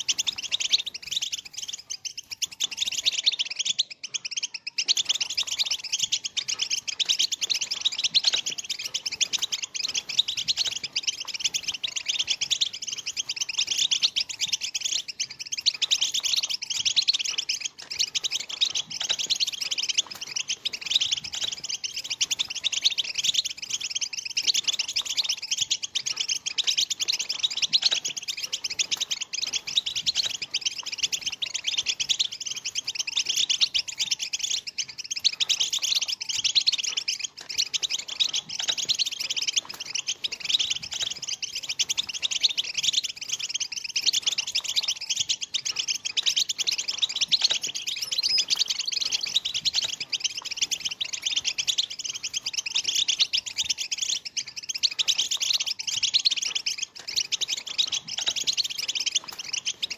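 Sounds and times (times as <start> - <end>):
goldfinches twittering: 0.0 - 59.9.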